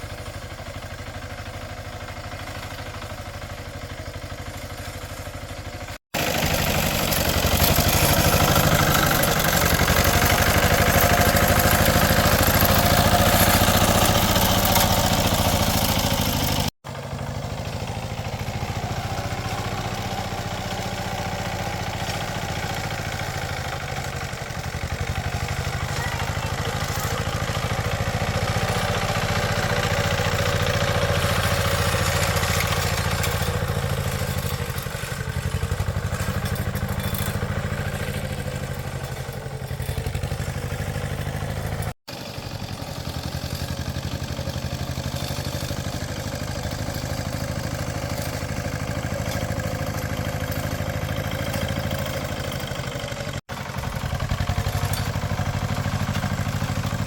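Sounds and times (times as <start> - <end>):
small engine running with clatter: 0.0 - 57.0.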